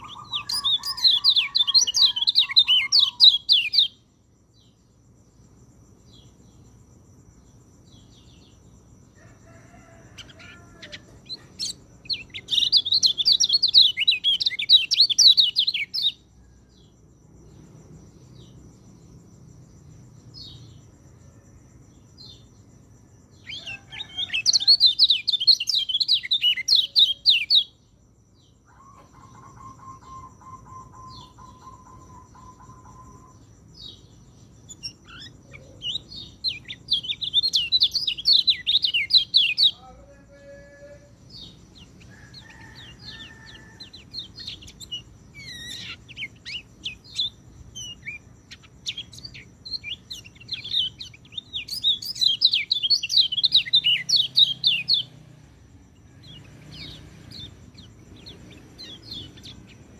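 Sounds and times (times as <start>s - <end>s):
thrush chirping song: 0.0s - 59.9s.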